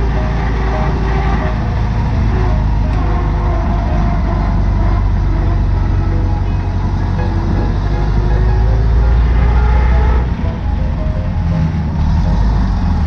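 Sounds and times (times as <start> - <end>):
four-cylinder car engine running: 0.0 - 13.0
road and wind noise: 0.0 - 13.0.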